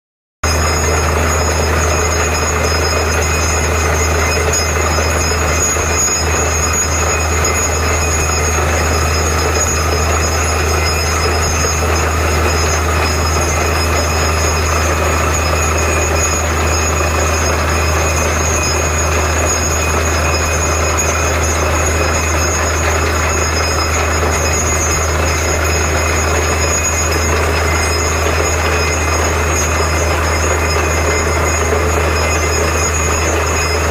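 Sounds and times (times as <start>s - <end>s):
drilling rig running: 0.4s - 33.9s.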